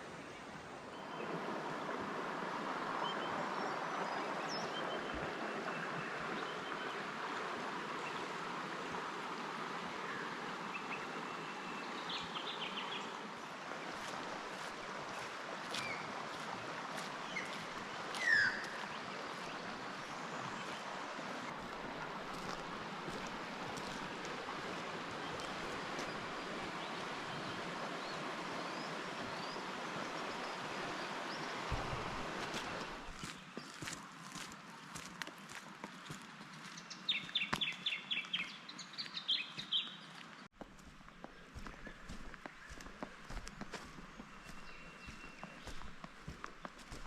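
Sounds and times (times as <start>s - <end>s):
river water flowing: 0.0s - 47.0s.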